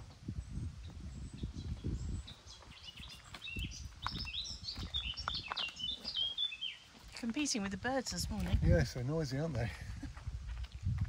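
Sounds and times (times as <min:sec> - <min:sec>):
small songbirds chirping: 0:00.0 - 0:09.6.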